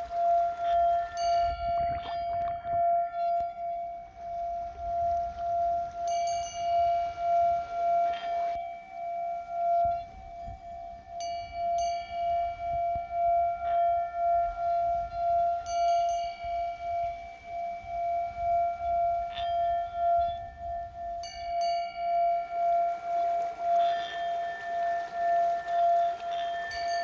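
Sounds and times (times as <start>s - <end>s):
higher singing bowls struck ringing: 0.0s - 27.0s
low singing bowl tone pulsing: 0.0s - 27.0s.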